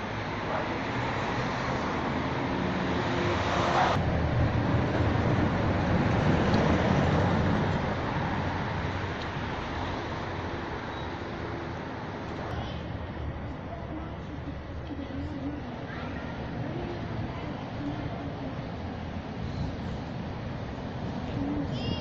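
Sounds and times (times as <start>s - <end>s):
road traffic hiss: 0.0s - 22.0s
vehicle low rumble: 0.0s - 22.0s.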